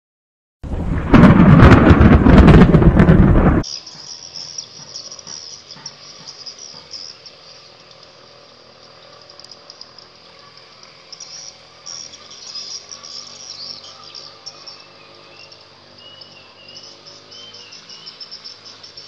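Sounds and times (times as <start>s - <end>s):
loud burst of rough noise: 0.6s - 19.0s
insects droning: 3.0s - 19.0s.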